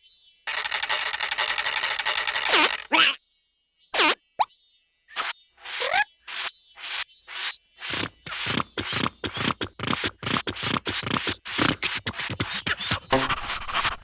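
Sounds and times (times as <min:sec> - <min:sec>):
cartoon scratching strokes: 0:00.5 - 0:03.2, 0:05.1 - 0:14.0.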